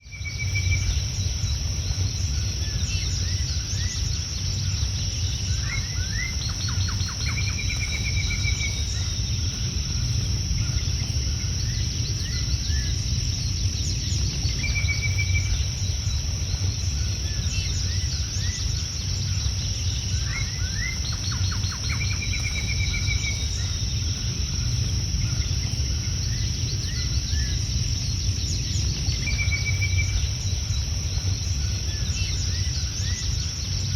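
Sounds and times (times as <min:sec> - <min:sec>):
bird chirps and trills: 0:00.0 - 0:33.9
high insect drone: 0:00.0 - 0:33.9
low rumble: 0:00.0 - 0:33.9.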